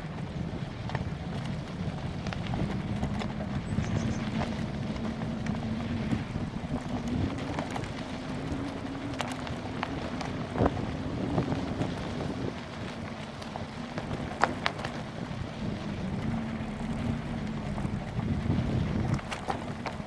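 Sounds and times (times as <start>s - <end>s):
bike tyre rumble: 0.0s - 20.0s
wind buffeting microphone: 0.0s - 20.0s
faint hum rising in pitch: 1.4s - 20.0s.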